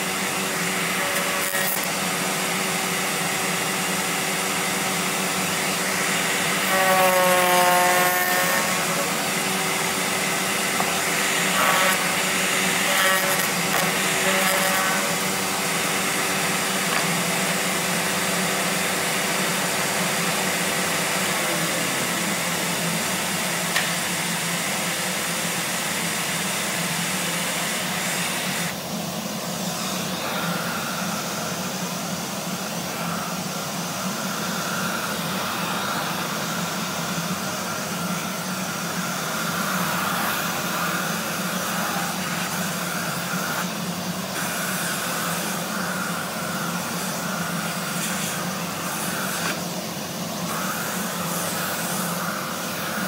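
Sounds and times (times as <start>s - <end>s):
router cutting wood: 0.0s - 53.0s
router running: 0.0s - 53.0s.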